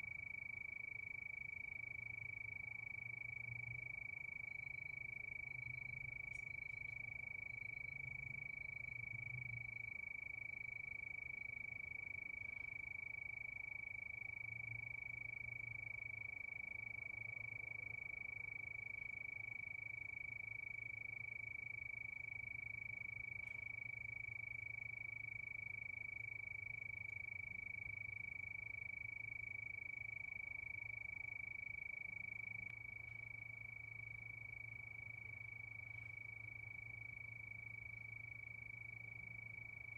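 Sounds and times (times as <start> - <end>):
crickets trilling: 0.3 - 39.9.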